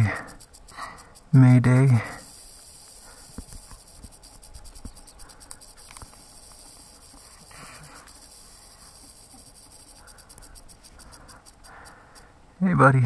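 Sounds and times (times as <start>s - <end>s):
rattlesnake rattling buzz: 0.0s - 12.5s.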